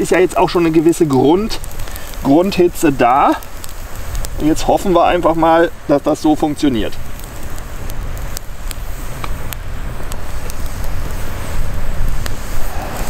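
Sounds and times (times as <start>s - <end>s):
campfire crackling and popping: 0.0s - 13.0s
low fire rumble: 0.0s - 13.0s.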